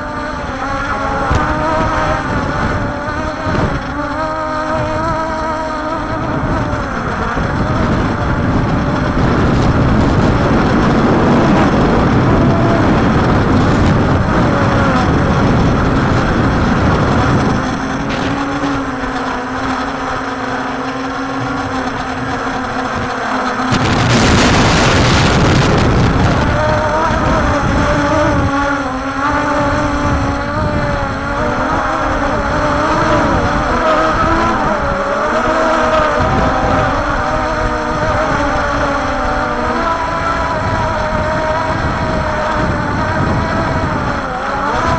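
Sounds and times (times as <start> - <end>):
quadcopter motors whining: 0.0 - 44.9
strong wind on microphone: 0.0 - 44.9.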